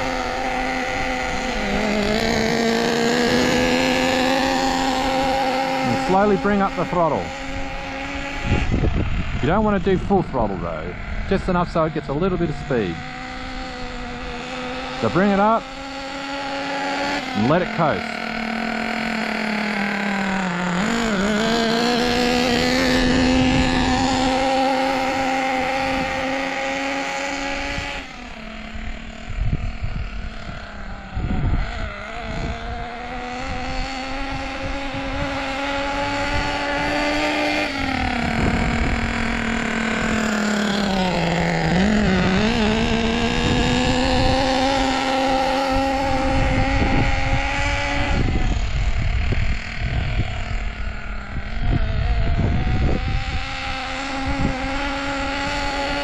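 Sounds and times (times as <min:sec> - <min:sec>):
model engine buzzing: 0:00.0 - 0:56.0.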